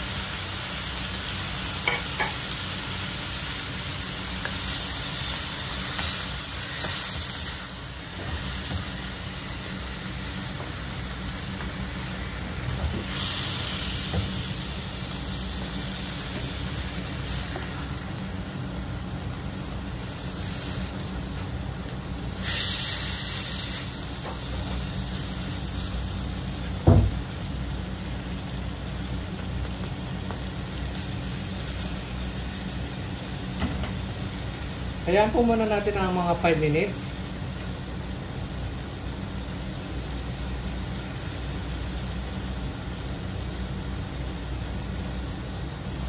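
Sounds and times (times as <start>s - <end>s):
meat sizzling in a wok: 0.0s - 46.0s.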